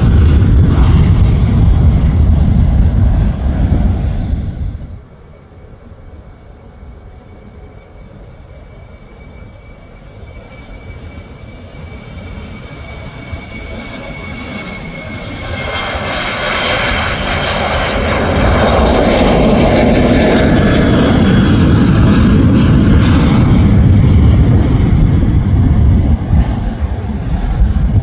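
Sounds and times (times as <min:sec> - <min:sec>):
deep rumble of climbing plane: 0:00.0 - 0:05.5, 0:06.8 - 0:28.0
high engine whine: 0:00.0 - 0:28.0
jet airliner taking off: 0:00.0 - 0:28.0.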